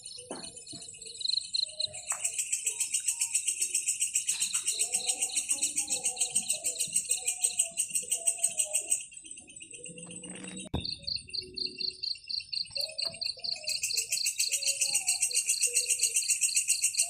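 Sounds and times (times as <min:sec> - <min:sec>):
faint low insect calls: 0:00.0 - 0:17.0
insect trill: 0:00.0 - 0:17.0
insects chirping: 0:00.0 - 0:17.0.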